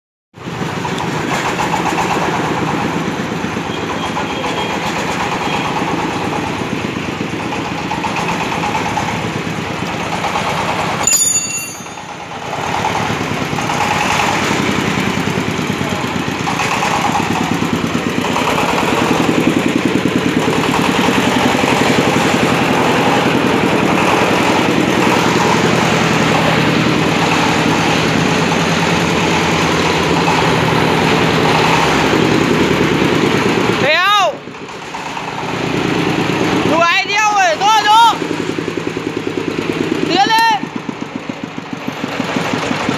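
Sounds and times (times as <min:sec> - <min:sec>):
drilling rig engine running: 0:00.4 - 0:42.9.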